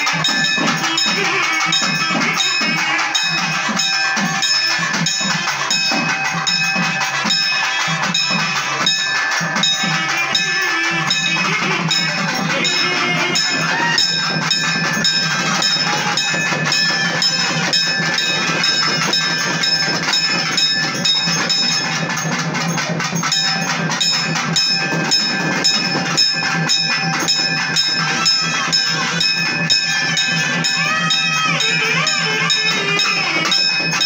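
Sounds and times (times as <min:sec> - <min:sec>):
fast festival drumming: 0:00.0 - 0:34.0
steady ringing tones: 0:00.0 - 0:34.0.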